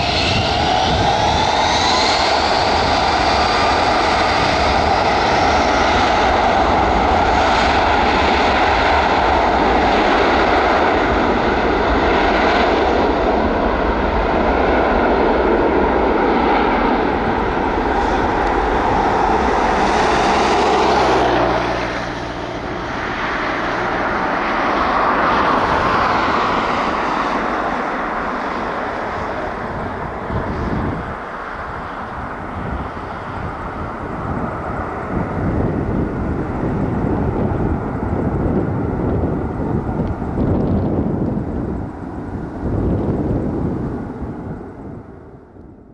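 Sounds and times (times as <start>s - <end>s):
airliner engines running: 0.0s - 45.9s.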